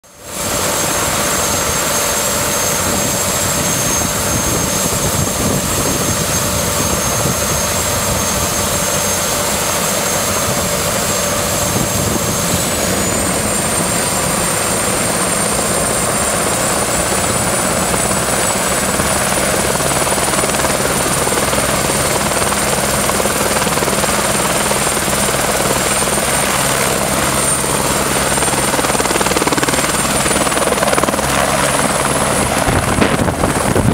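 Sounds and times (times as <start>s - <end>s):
helicopter turbine whine: 0.0s - 33.9s
rushing rotor noise: 0.3s - 33.9s.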